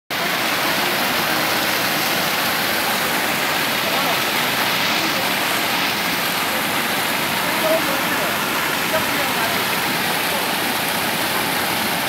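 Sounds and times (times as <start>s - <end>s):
floodwater rushing: 0.1s - 12.0s.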